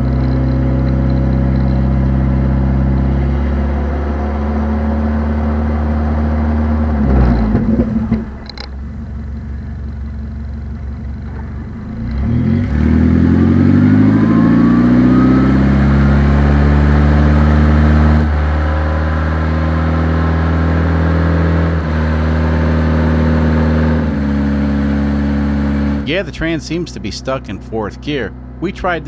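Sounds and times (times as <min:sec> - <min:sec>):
car engine revving with whine: 0:00.0 - 0:29.0.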